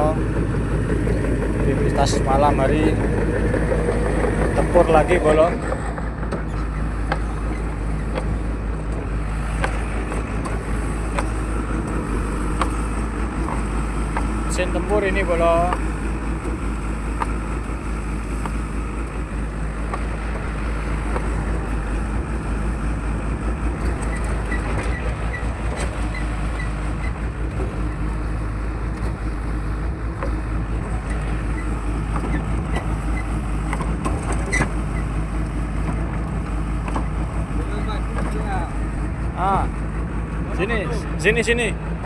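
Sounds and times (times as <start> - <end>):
heavy machine engine droning: 0.0 - 42.0.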